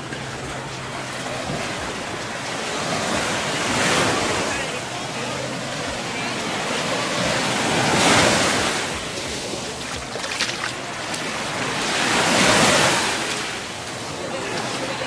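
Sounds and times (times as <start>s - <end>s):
small waves breaking on sand: 0.0s - 15.0s.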